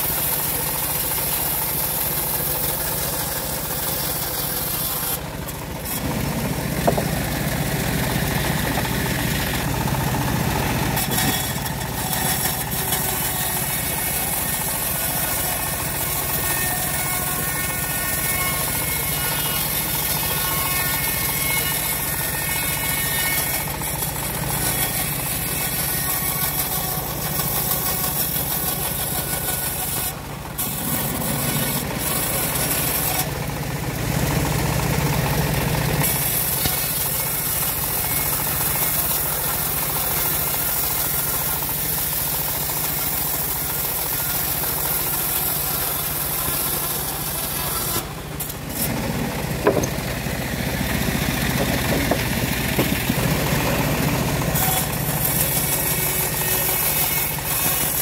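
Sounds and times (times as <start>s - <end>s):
saw blade rasping through wood: 0.0s - 34.5s, 35.9s - 58.0s
bandsaw machine drone: 0.0s - 58.0s.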